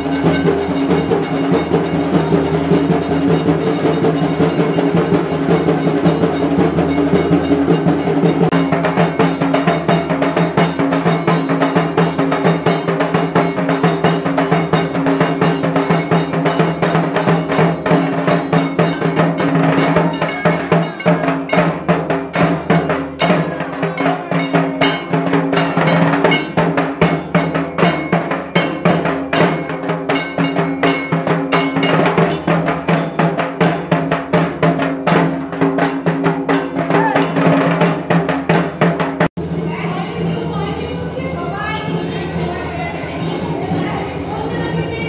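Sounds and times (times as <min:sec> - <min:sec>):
drums beaten fast with sticks: 0:00.0 - 0:45.0.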